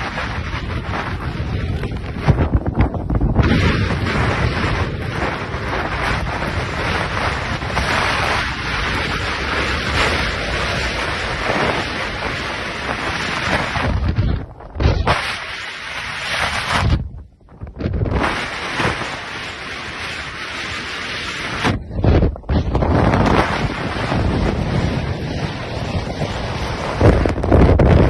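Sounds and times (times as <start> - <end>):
storm wind gusting: 0.0 - 28.0.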